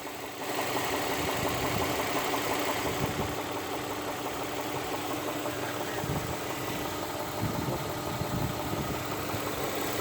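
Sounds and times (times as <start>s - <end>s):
car engine idling with knock: 0.0s - 10.0s.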